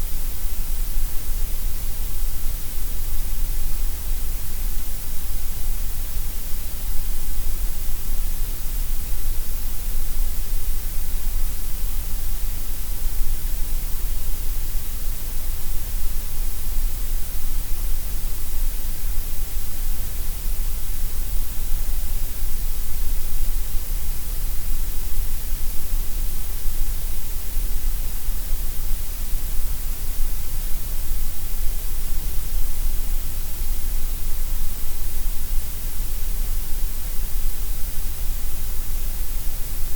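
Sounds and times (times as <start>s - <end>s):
steady gray noise hiss: 0.0s - 39.9s.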